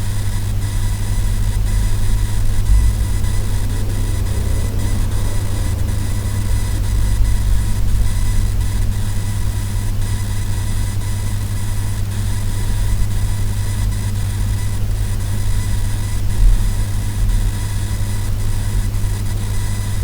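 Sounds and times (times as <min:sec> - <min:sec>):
laptop coil whine: 0:00.0 - 0:20.0
steady low hum: 0:00.0 - 0:20.0.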